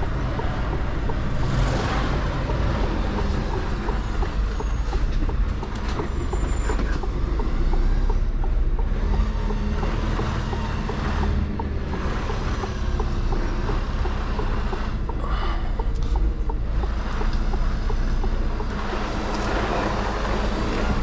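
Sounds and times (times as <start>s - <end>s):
diesel truck engine from cab: 0.0s - 21.0s
light regular ticking: 0.0s - 21.0s.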